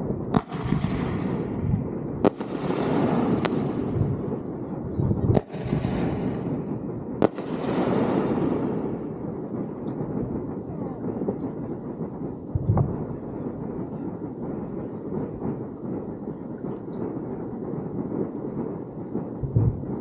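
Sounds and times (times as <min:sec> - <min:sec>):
crackling hiss: 0:00.0 - 0:20.0
firework bangs: 0:00.0 - 0:20.0.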